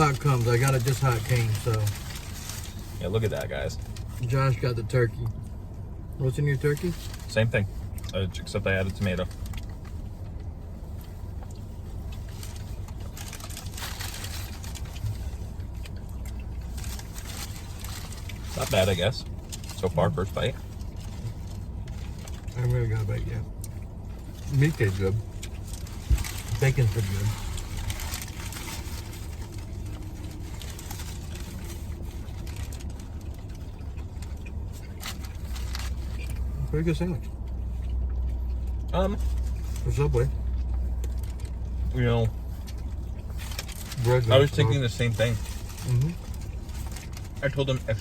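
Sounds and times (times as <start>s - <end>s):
paper wrapper crinkling: 0.0s - 4.7s, 6.2s - 36.7s, 37.3s - 48.0s
car interior hum: 0.0s - 48.0s
faint clicks and rustles: 0.0s - 48.0s.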